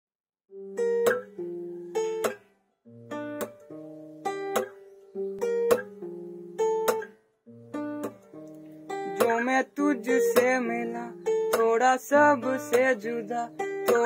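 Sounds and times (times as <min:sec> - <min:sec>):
acoustic guitar strums: 0:00.5 - 0:14.0.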